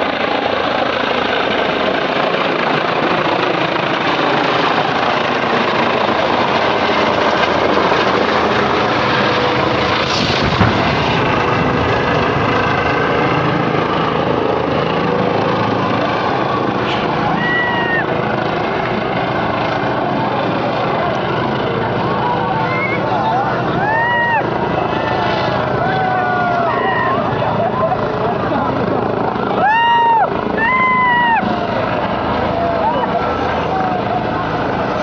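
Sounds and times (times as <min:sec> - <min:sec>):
helicopter rotor and engine: 0:00.0 - 0:35.0.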